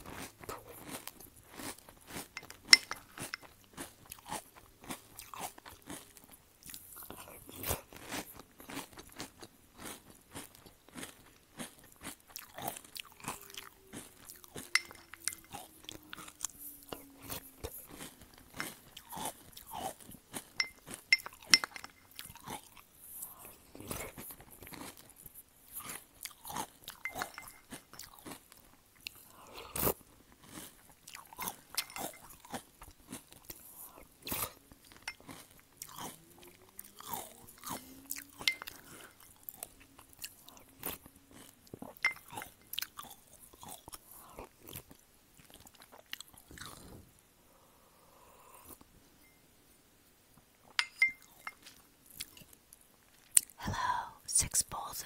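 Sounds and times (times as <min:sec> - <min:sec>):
chewing and crunching cereal: 0:00.0 - 0:47.0, 0:50.6 - 0:55.0.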